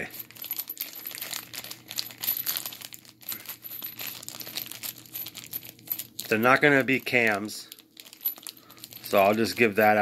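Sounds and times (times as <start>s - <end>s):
plastic bag crinkling: 0.0s - 9.6s
screws clinking: 0.0s - 10.0s.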